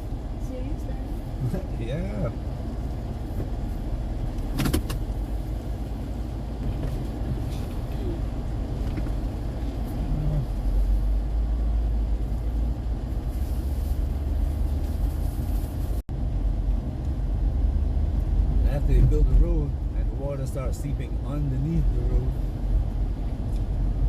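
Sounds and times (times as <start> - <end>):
road and engine rumble in car: 0.0 - 24.0.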